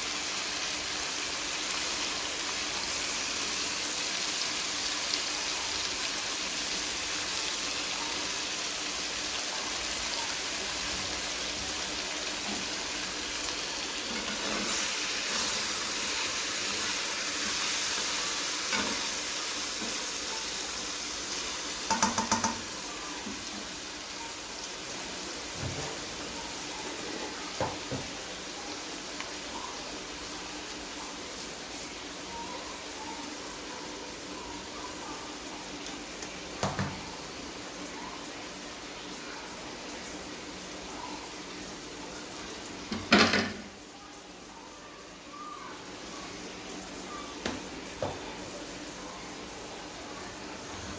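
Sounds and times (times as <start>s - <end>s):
food sizzling in a pan: 0.0s - 50.9s.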